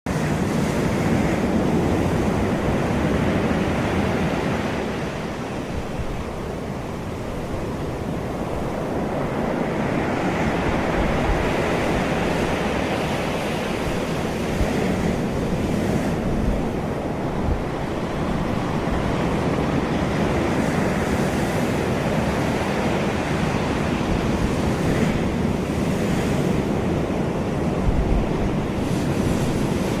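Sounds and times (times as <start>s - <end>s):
surf roaring: 0.1s - 30.0s
wind buffeting microphone: 0.1s - 30.0s.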